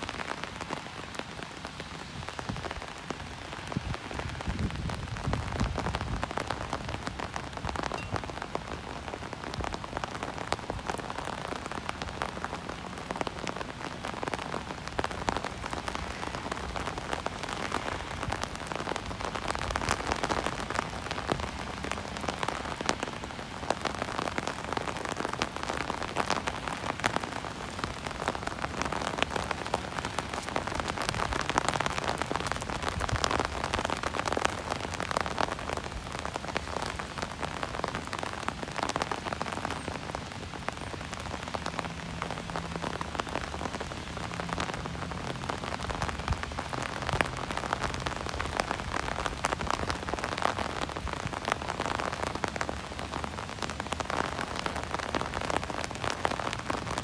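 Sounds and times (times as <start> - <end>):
rain tapping on an umbrella: 0.0 - 57.0.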